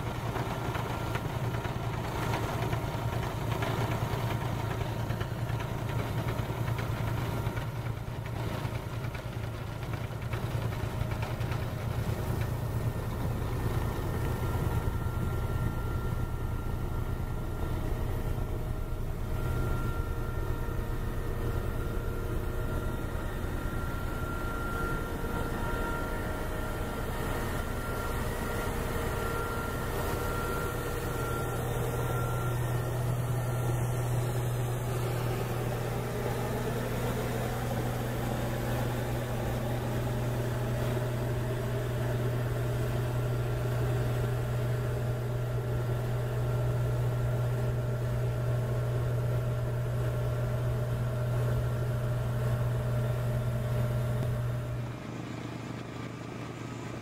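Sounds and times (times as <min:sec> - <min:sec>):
snow blower engine drone: 0:00.0 - 0:57.0.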